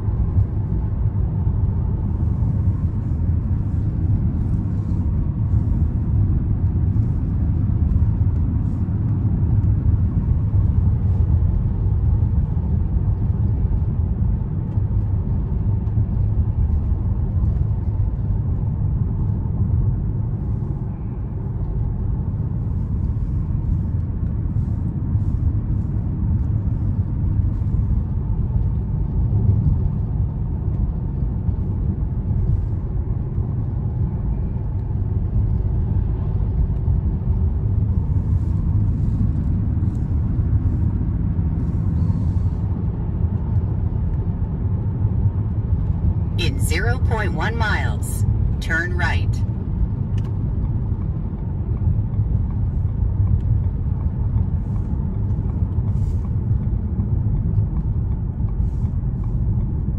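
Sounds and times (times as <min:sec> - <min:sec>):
car road and tyre noise: 0:00.0 - 0:59.9.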